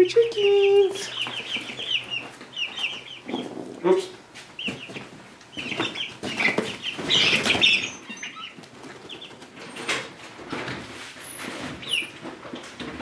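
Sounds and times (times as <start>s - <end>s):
chicks flapping and scuffling: 0.0s - 13.0s
chicks peeping: 0.0s - 13.0s.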